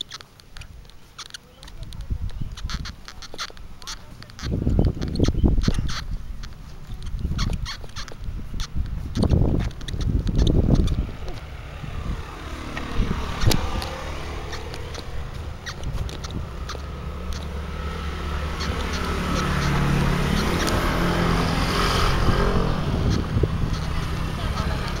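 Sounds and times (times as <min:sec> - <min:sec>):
sharp clicks: 0:00.0 - 0:25.0
vehicle engine passing by: 0:02.5 - 0:25.0.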